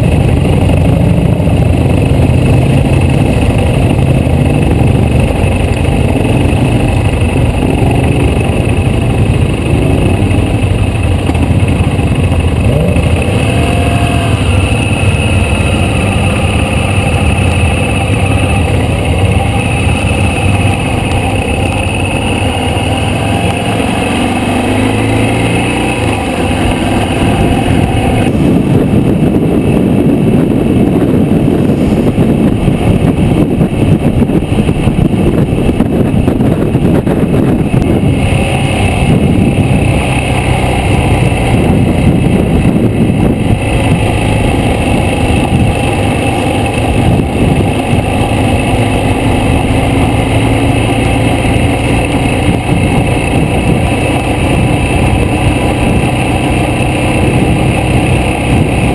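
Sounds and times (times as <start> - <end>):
motorcycle engine cruising: 0.0 - 58.9
wind rush over microphone: 0.0 - 58.9.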